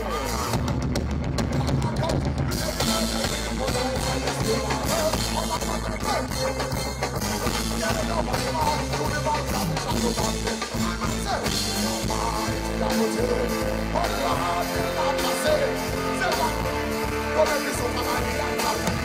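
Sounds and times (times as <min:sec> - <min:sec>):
live reggae band: 0:00.0 - 0:19.0
man singing into a microphone: 0:00.0 - 0:19.0.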